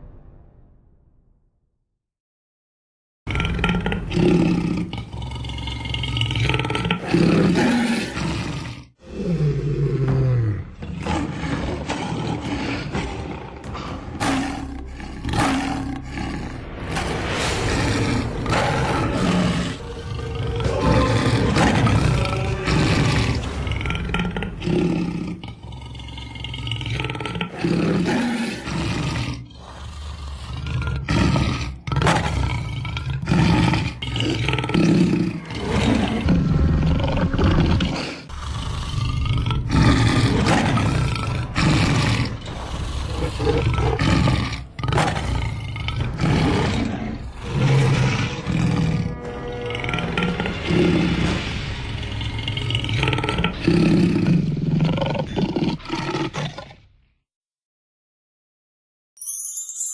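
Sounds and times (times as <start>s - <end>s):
lion growling and roaring: 3.3s - 57.1s.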